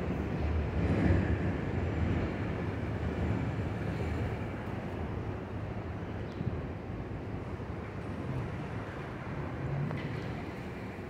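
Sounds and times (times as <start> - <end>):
elevated train on steel structure: 0.0 - 11.0.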